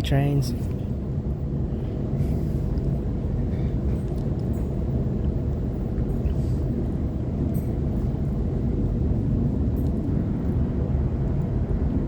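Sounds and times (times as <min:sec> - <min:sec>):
faint steady hum: 0:00.0 - 0:12.0
train cabin low rumble: 0:00.0 - 0:12.0.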